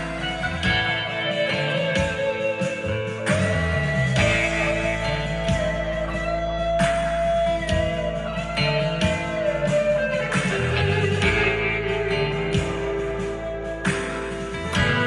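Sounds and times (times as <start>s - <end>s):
electric guitar notes: 0.0s - 15.0s.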